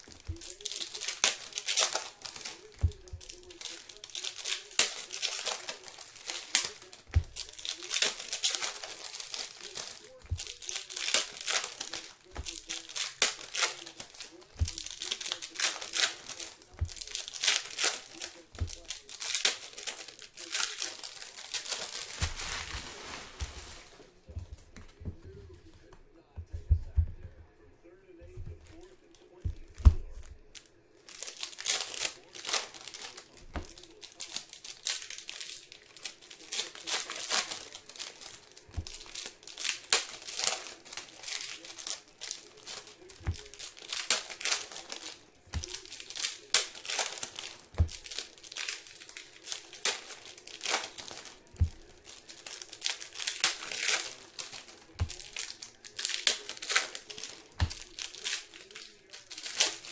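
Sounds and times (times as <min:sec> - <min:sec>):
foil wrappers tearing and crinkling: 0:00.0 - 0:27.2, 0:28.0 - 0:59.9.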